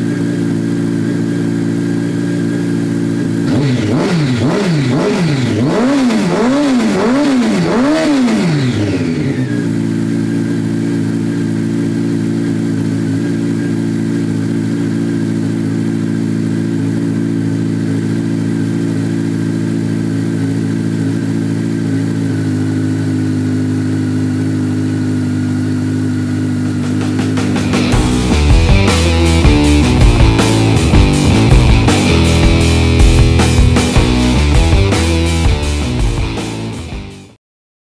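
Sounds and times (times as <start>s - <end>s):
motorcycle engine revving and idling: 0.0s - 37.4s.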